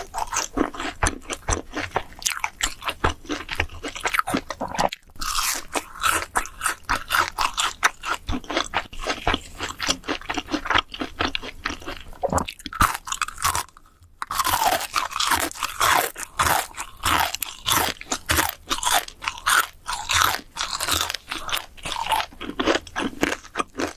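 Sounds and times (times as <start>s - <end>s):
crisp food crunching: 0.0s - 23.9s.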